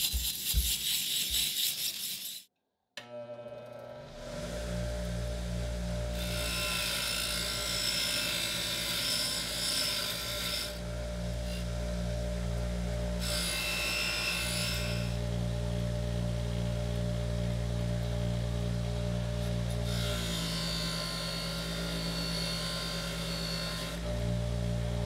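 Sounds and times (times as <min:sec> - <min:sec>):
bench grinder motor running: 0:03.0 - 0:25.0.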